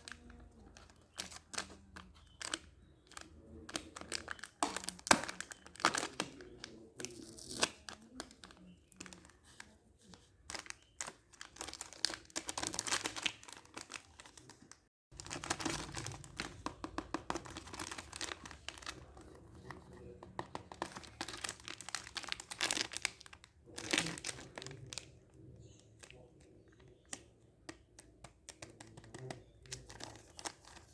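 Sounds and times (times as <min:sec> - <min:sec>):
packaging crinkling and tearing: 0:00.0 - 0:26.2.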